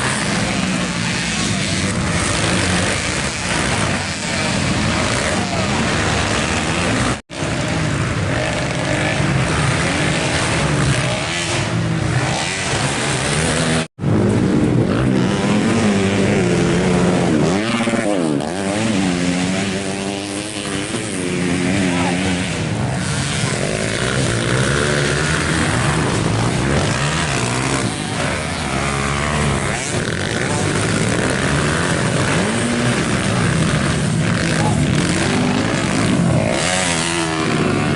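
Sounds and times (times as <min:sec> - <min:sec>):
racing engines revving: 0:00.0 - 0:37.9.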